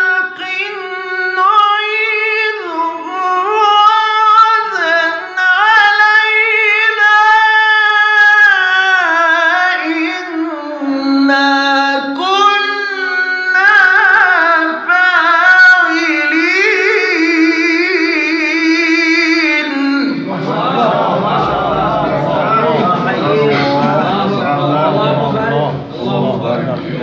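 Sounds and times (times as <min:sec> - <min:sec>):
man reciting in melodic chant: 0:00.0 - 0:27.0.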